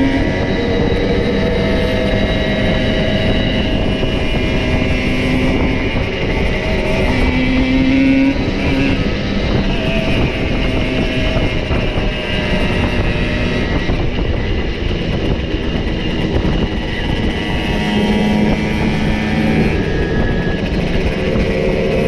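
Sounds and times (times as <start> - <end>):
two-stroke moped engines: 0.0 - 22.0.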